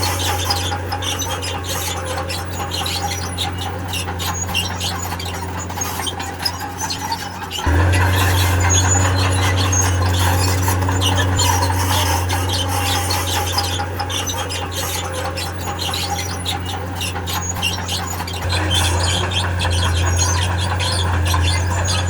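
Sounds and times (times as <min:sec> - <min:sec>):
crawler tracks squealing: 0:00.0 - 0:22.0
low diesel engine drone: 0:00.0 - 0:22.0.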